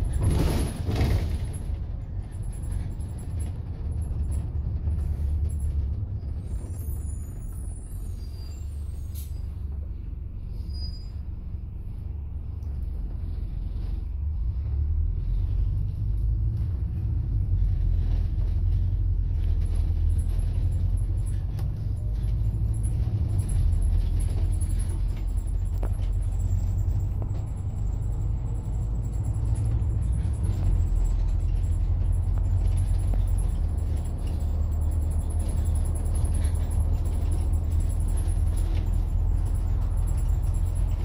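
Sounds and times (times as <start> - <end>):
bus engine rumble: 0.0 - 41.0.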